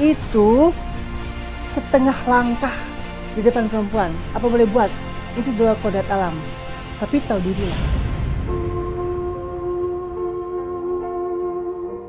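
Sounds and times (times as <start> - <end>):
music of long held notes: 0.0 - 12.0.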